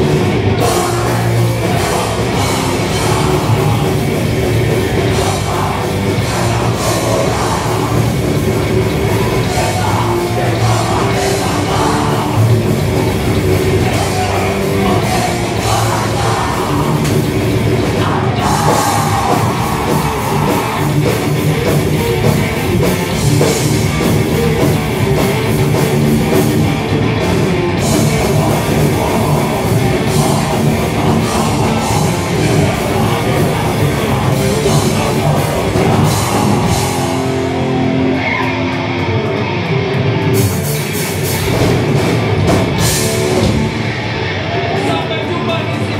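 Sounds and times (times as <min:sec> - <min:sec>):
thrash metal band playing: 0:00.0 - 0:45.9.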